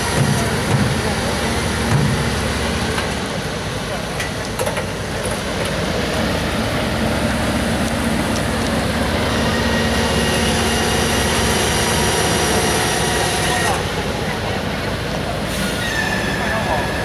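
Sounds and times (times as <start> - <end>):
diesel truck engines droning: 0.0 - 17.0
trailer tyres rumbling: 0.0 - 17.0.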